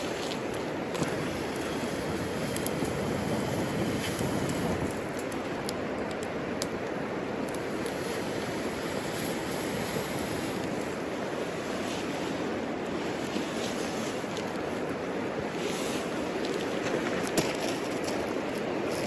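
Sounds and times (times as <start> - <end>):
fire crackles: 0.0 - 19.0
wood fire burning: 0.0 - 19.0.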